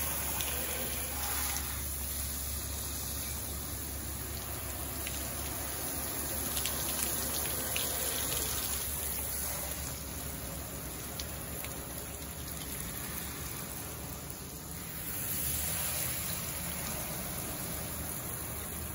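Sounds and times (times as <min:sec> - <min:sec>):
water running onto concrete: 0:00.0 - 0:18.9
water spray hissing on a car: 0:00.0 - 0:18.9.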